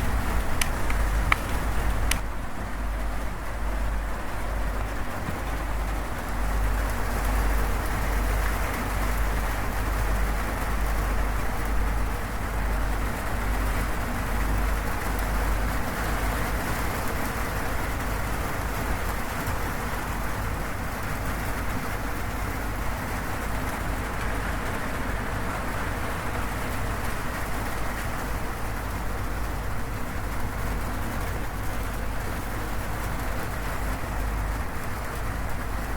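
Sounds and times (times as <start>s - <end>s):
heavy rain on a metal roof: 0.0s - 35.9s.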